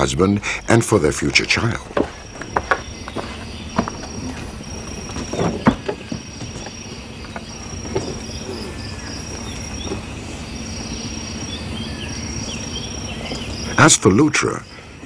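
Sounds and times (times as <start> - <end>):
low hum and rumble: 0.0 - 13.8
insects chirring: 0.0 - 15.0.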